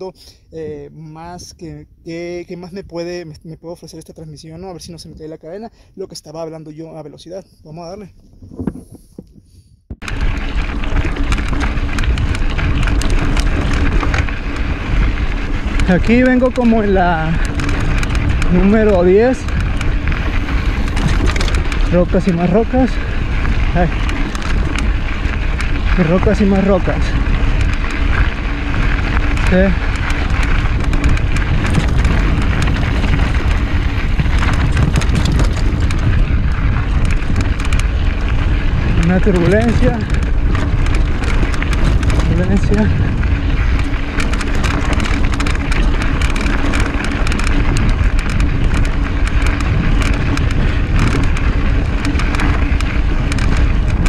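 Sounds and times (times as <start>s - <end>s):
wind buffeting microphone: 6.5s - 54.0s
tyre rumble: 8.4s - 54.0s
bike rattling on rocks: 10.0s - 54.0s.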